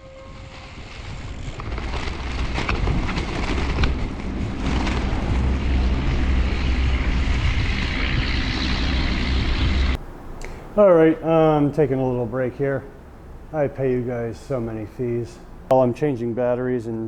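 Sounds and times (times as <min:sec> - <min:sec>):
bicycle tyre and road noise: 0:00.0 - 0:15.7
wind rushing over microphone: 0:00.3 - 0:15.7.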